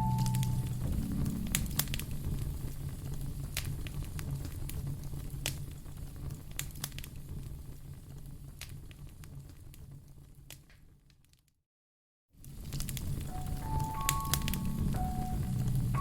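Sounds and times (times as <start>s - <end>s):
wood fire crackling: 0.0s - 11.2s, 12.4s - 16.0s.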